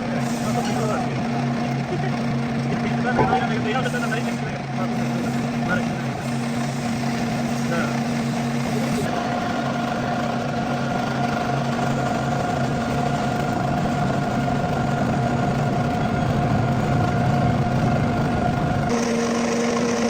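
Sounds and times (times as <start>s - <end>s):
metal lathe running: 0.0s - 20.0s.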